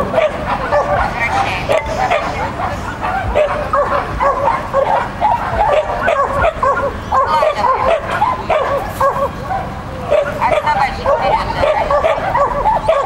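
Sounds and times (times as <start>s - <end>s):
dog yipping and barking: 0.0s - 13.0s.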